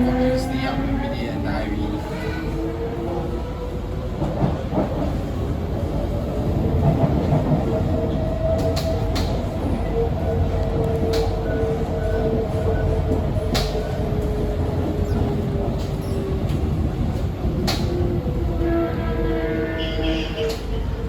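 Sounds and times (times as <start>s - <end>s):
train car rumble: 0.0s - 21.0s.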